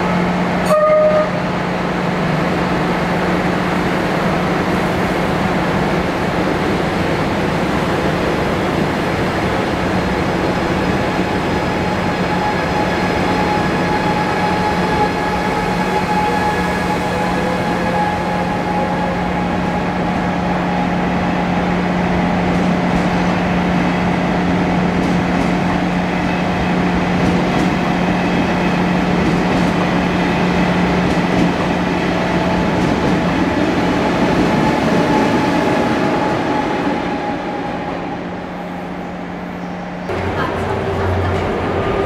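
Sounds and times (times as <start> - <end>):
train humming with whines: 0.0 - 42.0.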